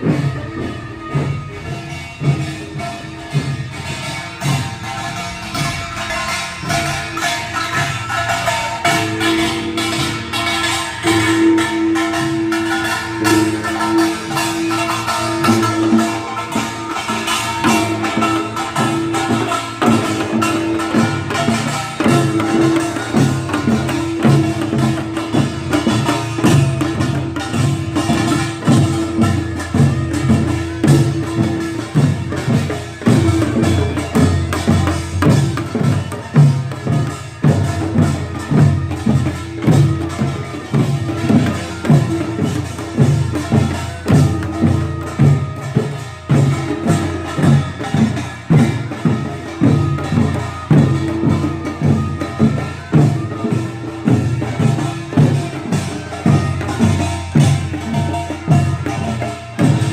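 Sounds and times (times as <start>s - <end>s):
drum strikes: 0.0s - 59.9s.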